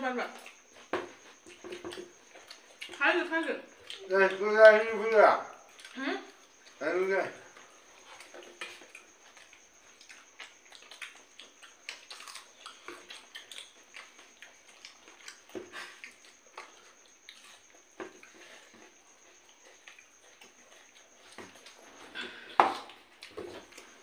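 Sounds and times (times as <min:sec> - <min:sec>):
people chewing food: 0:00.0 - 0:24.0.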